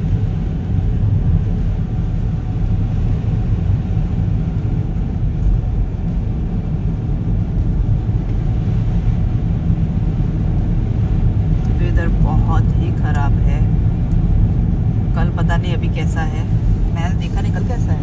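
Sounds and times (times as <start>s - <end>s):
car driving on snow: 0.0s - 18.0s.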